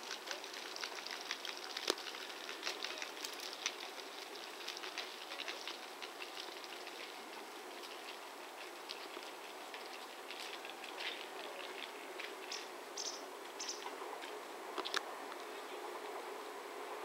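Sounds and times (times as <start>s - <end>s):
faint clicking and crackling: 0.0s - 16.2s.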